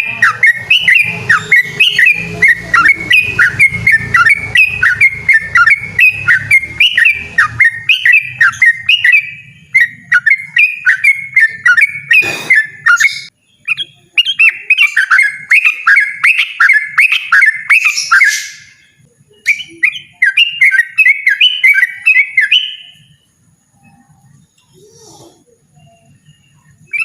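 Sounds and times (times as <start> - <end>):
bulbul singing: 0.0 - 27.0.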